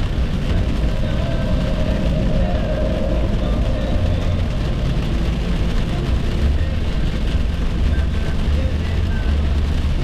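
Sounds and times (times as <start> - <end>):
car road noise from inside: 0.0 - 10.0.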